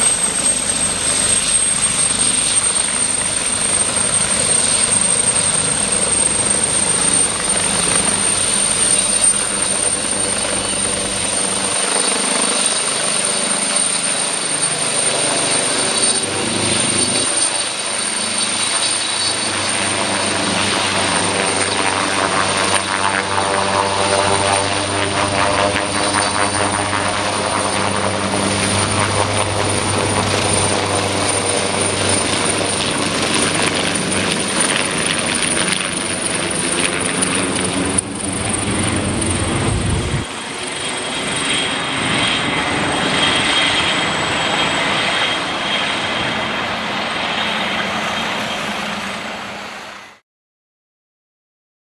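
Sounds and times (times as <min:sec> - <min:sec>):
helicopter rotor noise: 0:00.0 - 0:50.2
helicopter turbine whine: 0:00.0 - 0:50.2.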